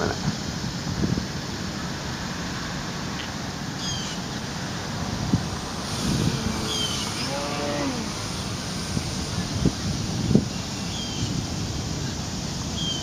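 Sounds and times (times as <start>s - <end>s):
wind buffeting microphone: 0.0s - 2.0s, 4.1s - 13.0s.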